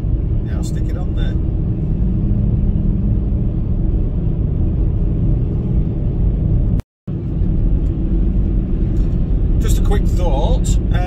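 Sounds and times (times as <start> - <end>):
road noise: 0.0 - 11.0
van engine rumble: 0.0 - 11.0.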